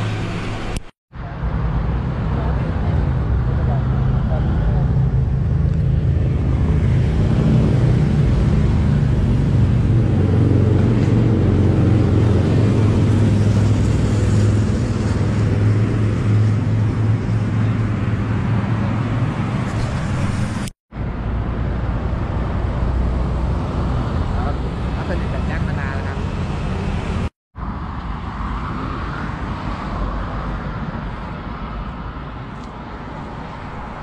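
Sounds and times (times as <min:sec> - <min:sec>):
street traffic noise: 0:00.0 - 0:34.0.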